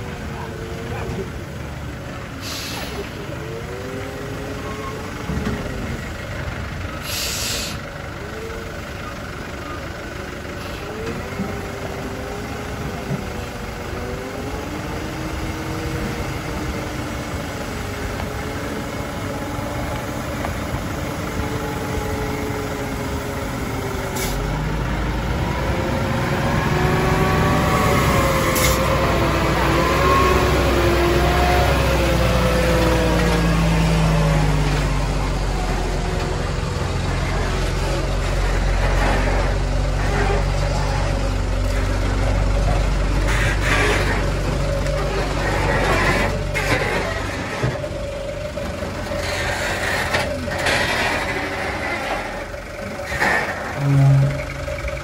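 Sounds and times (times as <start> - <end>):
diesel truck engine rumble: 0.0 - 55.0.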